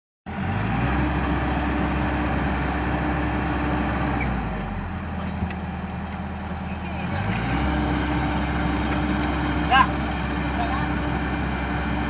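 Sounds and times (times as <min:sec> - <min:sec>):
excavator diesel engine running: 0:00.3 - 0:12.0.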